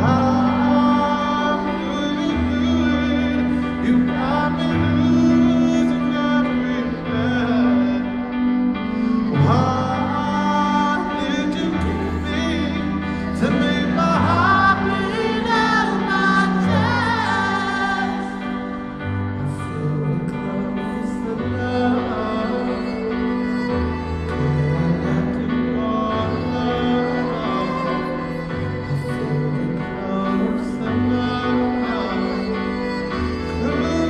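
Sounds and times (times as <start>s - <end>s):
live band music: 0.0s - 34.0s
man singing: 0.0s - 34.0s.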